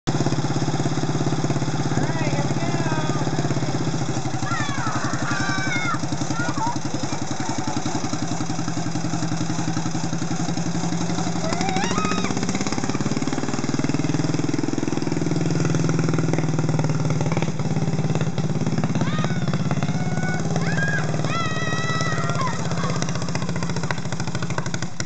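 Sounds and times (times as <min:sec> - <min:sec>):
single-cylinder engine running: 0:00.1 - 0:25.0.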